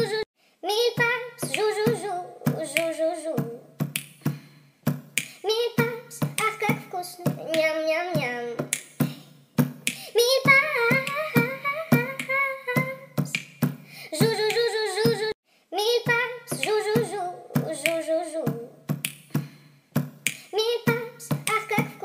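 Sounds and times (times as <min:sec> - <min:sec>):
clicking beat: 0:01.0 - 0:15.2, 0:16.5 - 0:22.0.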